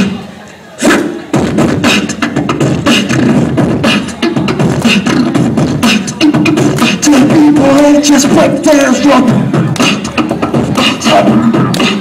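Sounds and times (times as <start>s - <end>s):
beatboxing into a microphone: 0.0s - 12.0s.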